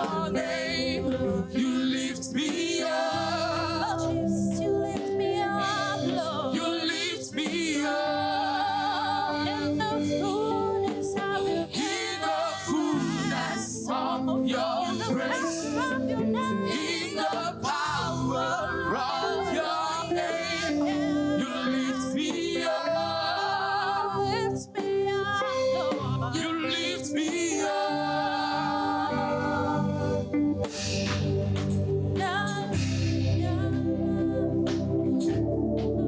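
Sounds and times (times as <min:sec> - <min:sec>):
choir singing gospel song: 0:00.0 - 0:36.0
low musical backing: 0:00.0 - 0:36.0.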